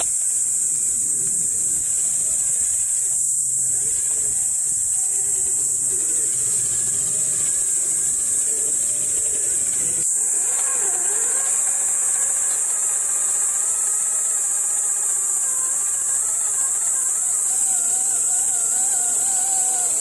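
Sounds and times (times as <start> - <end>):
electric motor and gear whine: 0.0 - 20.0
high-pitched hiss: 0.0 - 20.0.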